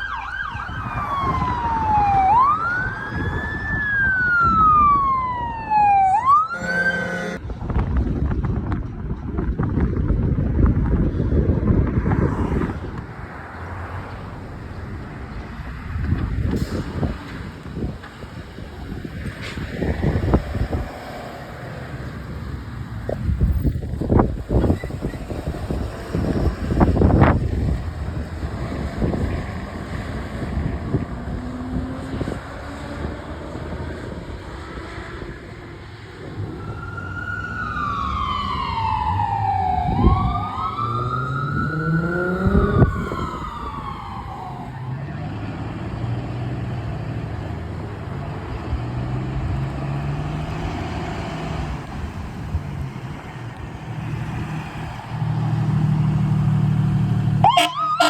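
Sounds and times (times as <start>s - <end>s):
emergency vehicle siren: 0.0s - 7.4s, 13.6s - 46.2s, 49.8s - 58.0s
road traffic: 0.0s - 58.0s.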